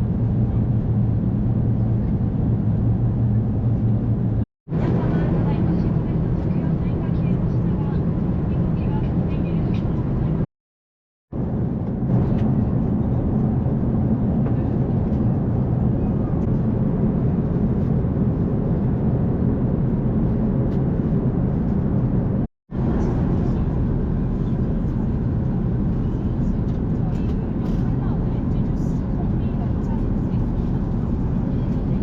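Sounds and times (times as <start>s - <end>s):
airliner cabin rumble: 0.0s - 10.5s, 11.3s - 32.0s.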